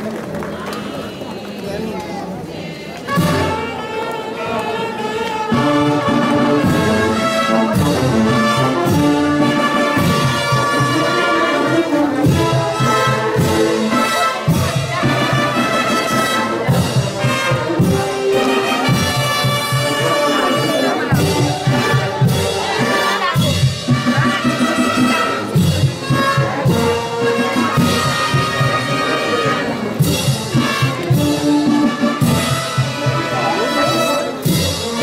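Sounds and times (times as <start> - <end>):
brass band playing a march: 3.1 - 35.0.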